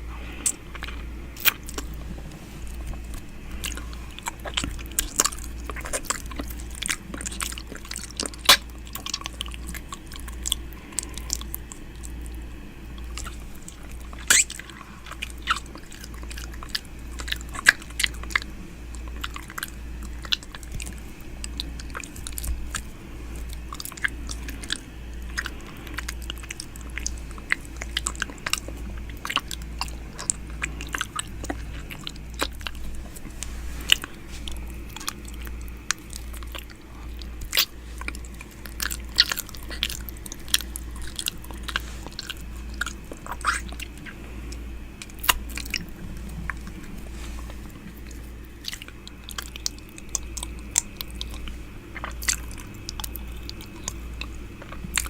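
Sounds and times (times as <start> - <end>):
lip and tongue clicks: 0.4 - 2.0, 2.6 - 55.0.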